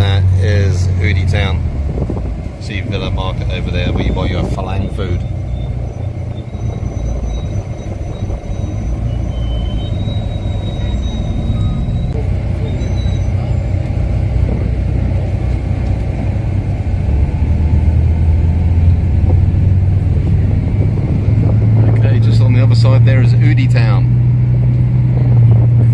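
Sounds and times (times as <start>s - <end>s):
bus engine and road rumble: 0.0s - 25.9s.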